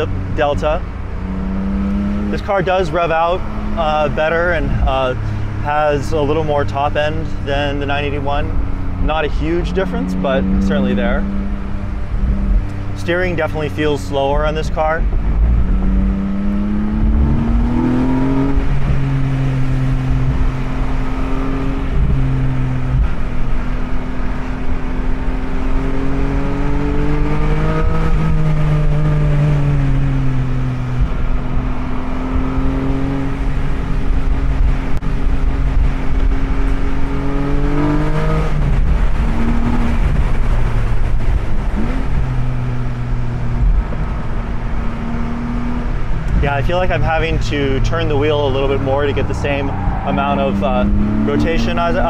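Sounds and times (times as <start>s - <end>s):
car engine: 0.0s - 52.0s
road noise: 0.0s - 52.0s.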